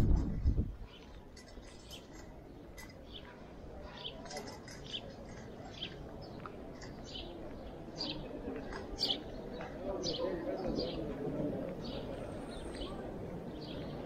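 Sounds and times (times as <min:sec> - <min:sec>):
street noise: 0:00.0 - 0:14.0
small birds chirping: 0:00.4 - 0:11.2, 0:11.8 - 0:14.0
distant voices murmuring: 0:01.2 - 0:14.0.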